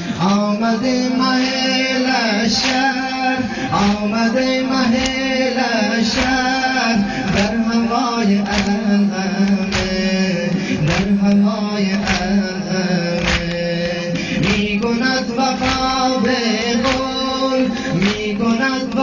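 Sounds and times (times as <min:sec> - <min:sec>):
man chanting a lament: 0:00.0 - 0:19.0.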